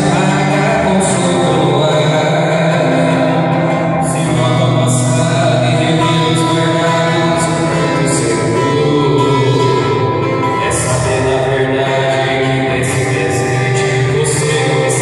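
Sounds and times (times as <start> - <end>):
man singing into microphone: 0.0 - 15.0
strummed acoustic guitar: 0.0 - 15.0.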